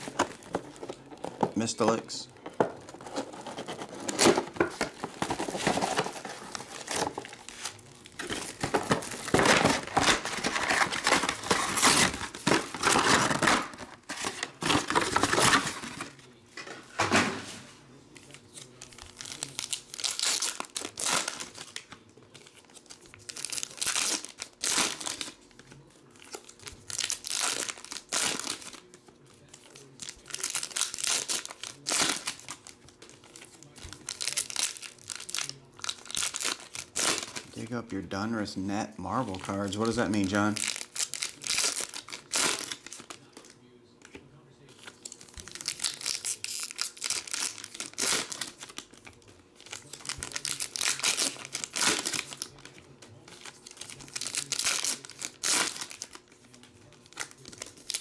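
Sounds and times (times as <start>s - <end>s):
plastic wrapping crinkling: 0.0s - 16.2s, 18.1s - 38.1s, 44.6s - 58.0s.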